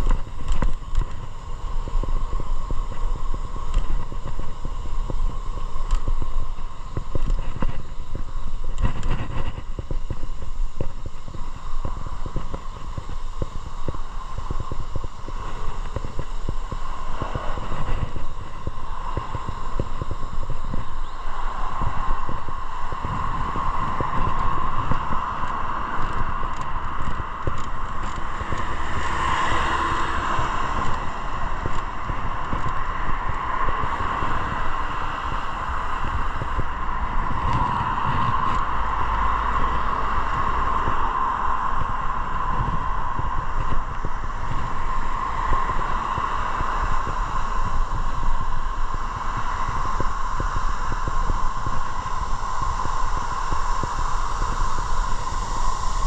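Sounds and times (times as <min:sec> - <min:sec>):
motorcycle engine and road noise: 0:00.0 - 0:56.0
wind rush on microphone: 0:00.0 - 0:56.0.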